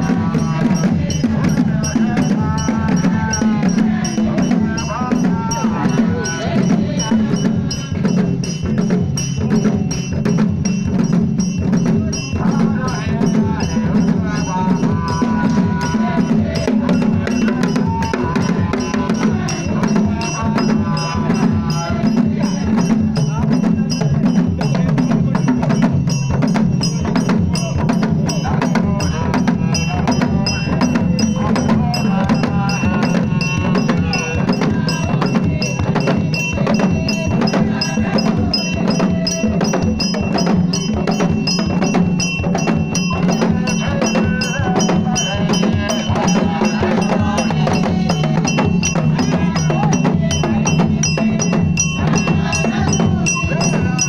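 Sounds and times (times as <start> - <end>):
group of voices singing: 0.0 - 54.0
wooden barrel drums beaten by hand: 0.0 - 54.0.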